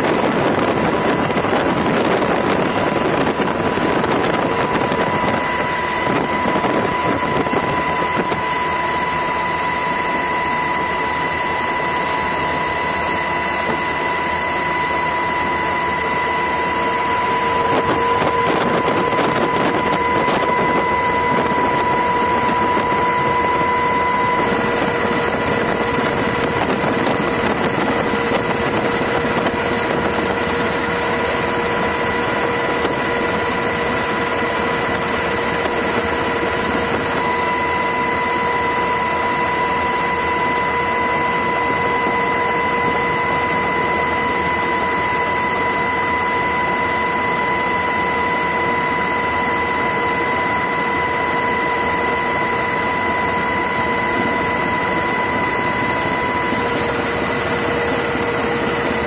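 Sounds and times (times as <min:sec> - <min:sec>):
engine noise: 0:00.0 - 0:59.0
high-pitched whine: 0:00.0 - 0:59.0.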